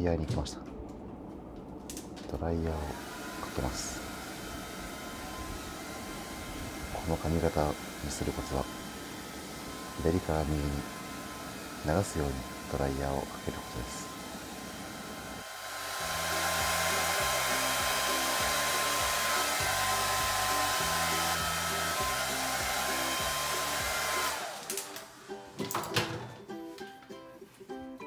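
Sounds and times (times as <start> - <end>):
hair dryer blowing: 2.6 - 25.4.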